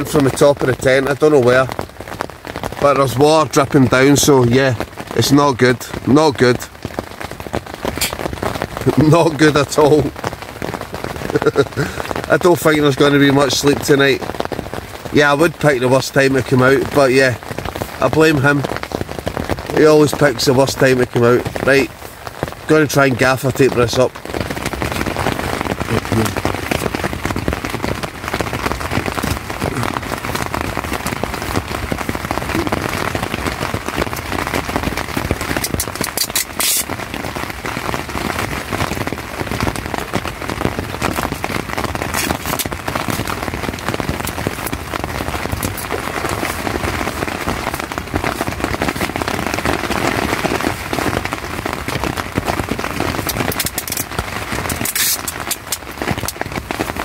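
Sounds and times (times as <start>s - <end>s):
heavy rain on tent: 0.0s - 57.0s.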